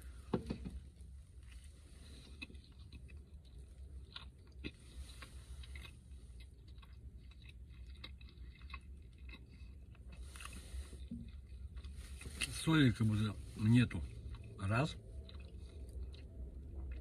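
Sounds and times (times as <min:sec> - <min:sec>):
low steady rumble: 0:00.0 - 0:17.0
person chewing food: 0:01.0 - 0:12.6, 0:13.9 - 0:17.0.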